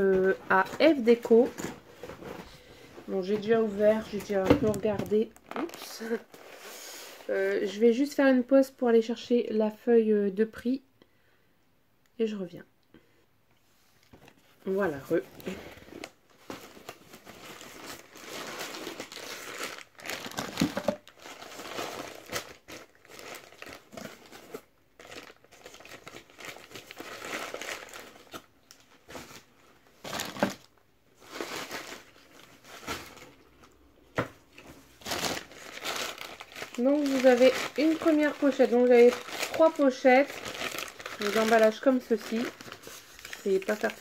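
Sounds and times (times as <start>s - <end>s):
paper packaging crinkling: 0.0s - 7.2s, 14.7s - 33.8s, 34.6s - 44.0s.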